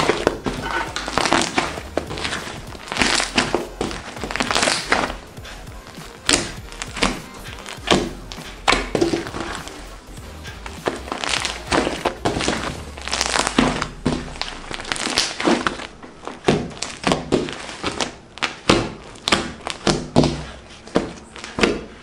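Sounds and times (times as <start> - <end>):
slime crackling and squishing: 0.0 - 22.0.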